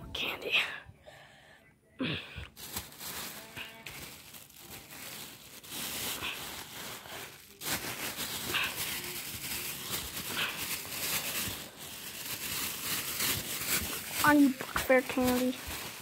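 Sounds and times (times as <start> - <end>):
plastic bag crinkling: 2.5 - 16.0.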